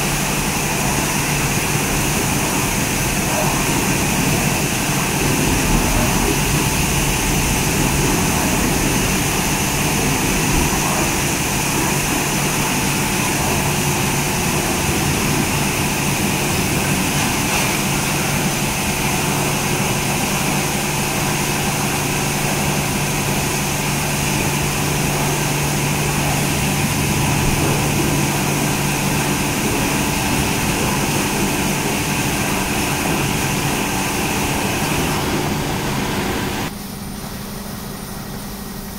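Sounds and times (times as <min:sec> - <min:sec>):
car wash brushes and water spray hiss: 0:00.0 - 0:38.9.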